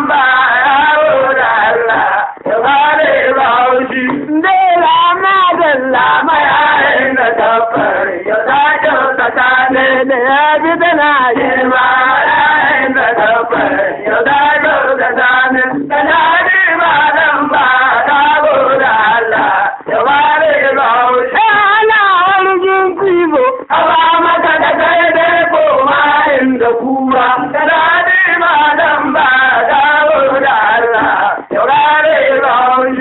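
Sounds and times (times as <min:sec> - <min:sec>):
voices singing ornamented melody: 0:00.0 - 0:33.0.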